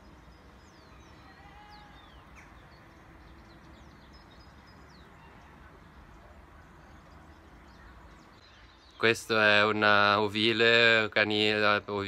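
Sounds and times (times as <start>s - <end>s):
birds chirping and whistling: 0.0s - 10.0s
low background noise: 0.0s - 12.0s.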